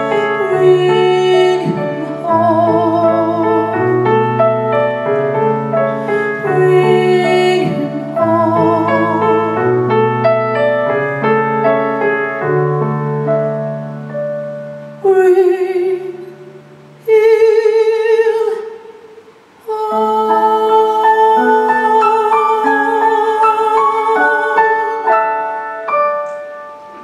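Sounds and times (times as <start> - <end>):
slow piano: 0.0 - 27.0.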